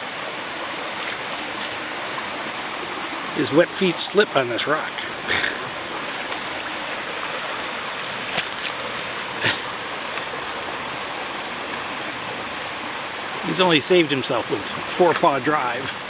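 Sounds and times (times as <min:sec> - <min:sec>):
waterfall and stream rushing: 0:00.0 - 0:16.0.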